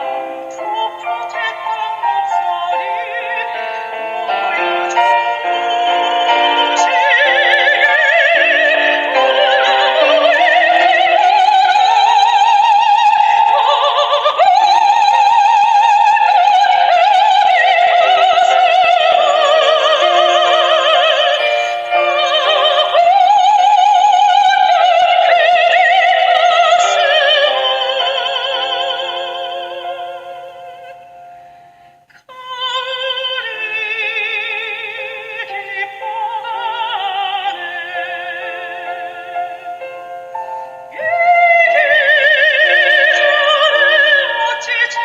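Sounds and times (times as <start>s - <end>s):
instrumental accompaniment: 0.0s - 45.0s
soprano singing with vibrato: 0.0s - 45.0s.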